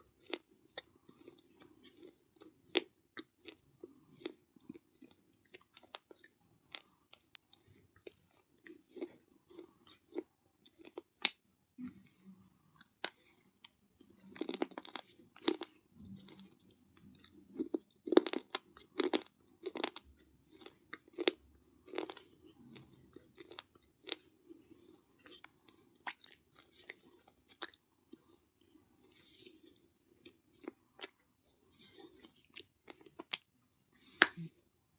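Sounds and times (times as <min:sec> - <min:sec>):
crunchy chewing of baked clay: 0:00.0 - 0:34.9.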